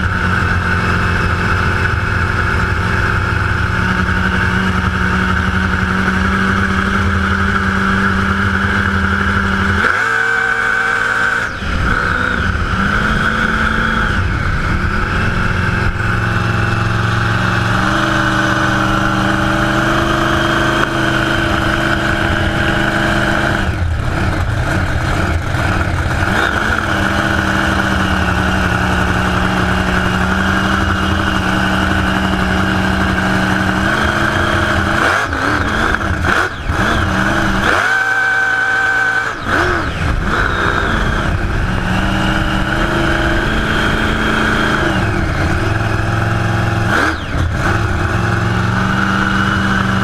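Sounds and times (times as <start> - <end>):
boat engine roaring at speed: 0.0 - 50.0.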